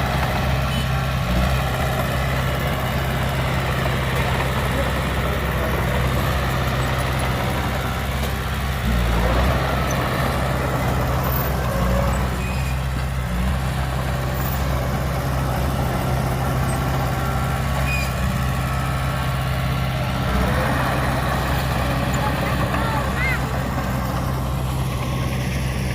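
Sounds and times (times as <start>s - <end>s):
heavy diesel machinery droning: 0.0s - 25.9s.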